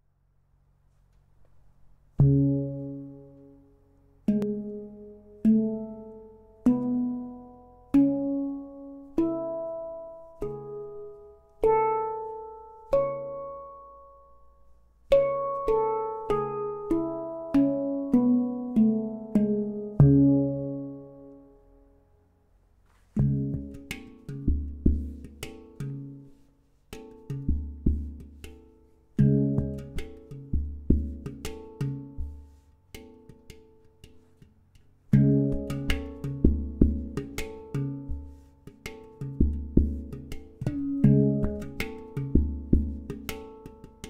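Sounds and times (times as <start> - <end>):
handpan notes ringing: 2.2 - 21.8, 23.2 - 34.2, 35.1 - 44.0.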